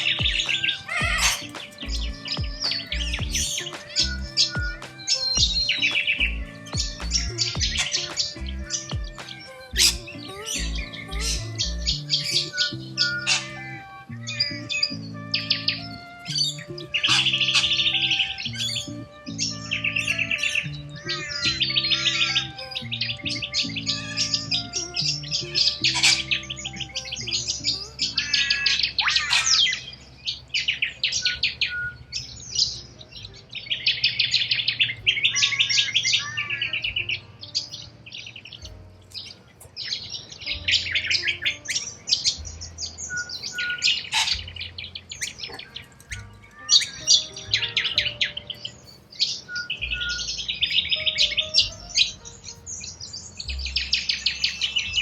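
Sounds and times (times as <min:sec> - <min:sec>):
cockatoos calling: 0:00.0 - 0:55.0.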